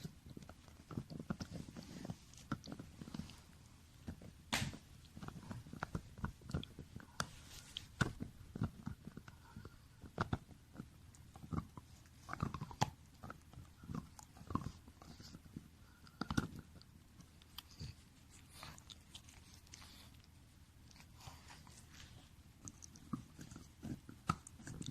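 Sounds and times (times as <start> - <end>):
teeth crunching and clicking: 0.0 - 3.4, 4.0 - 21.8, 22.6 - 24.9
dog chewing a toy: 0.0 - 24.9.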